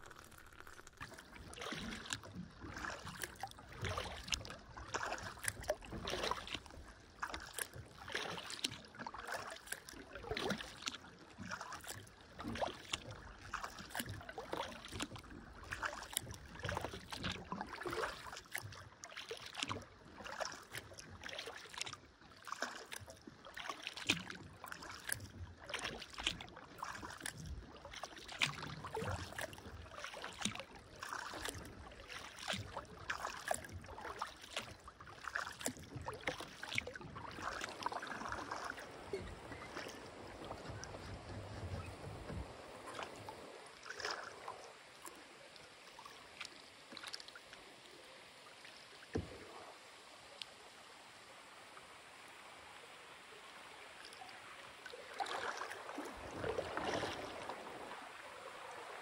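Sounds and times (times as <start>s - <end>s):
paddle splashing in water: 0.0s - 59.0s.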